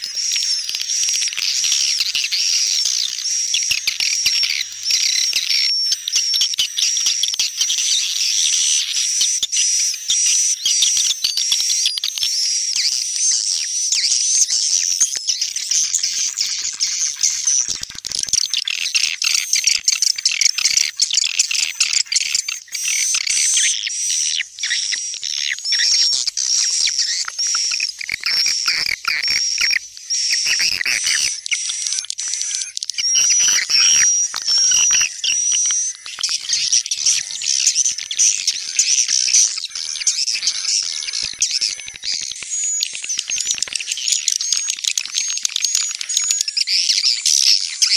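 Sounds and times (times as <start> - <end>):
high bird chirping and twittering: 0.0 - 47.9.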